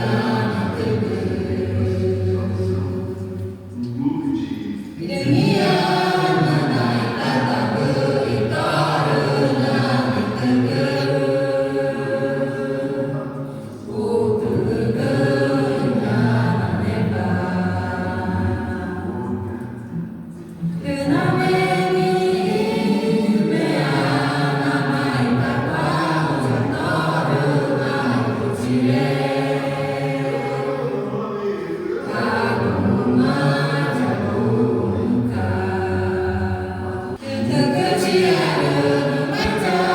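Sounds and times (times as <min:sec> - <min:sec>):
choir singing: 0:00.0 - 0:03.8, 0:04.9 - 0:39.9.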